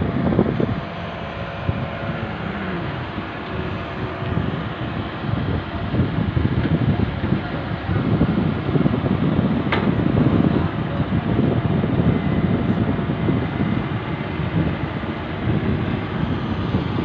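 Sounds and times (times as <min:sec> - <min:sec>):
diesel excavator engines running: 0:00.0 - 0:17.0
wind buffeting microphone: 0:00.0 - 0:17.0.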